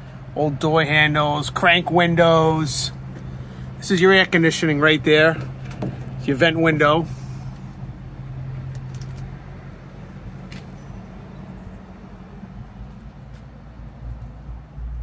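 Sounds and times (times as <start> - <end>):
outdoor background noise: 0.0 - 15.0
truck engine idling: 0.0 - 15.0.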